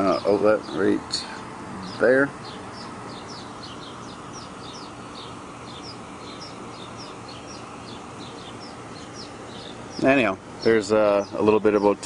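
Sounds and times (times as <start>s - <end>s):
small birds chirping: 0.0s - 12.0s
steady background noise: 0.0s - 12.0s.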